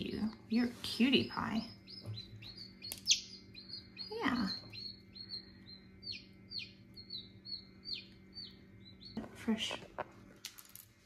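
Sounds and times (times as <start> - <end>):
chick peeping: 0.1 - 10.0.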